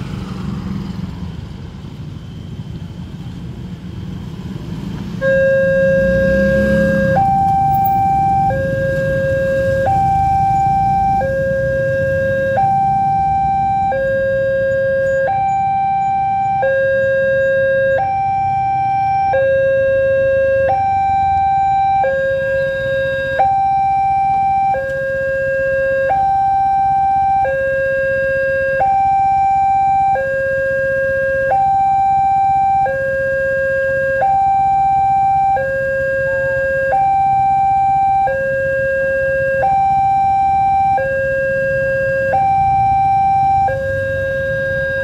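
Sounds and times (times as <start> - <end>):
two-tone crossing alarm: 5.1 - 45.0.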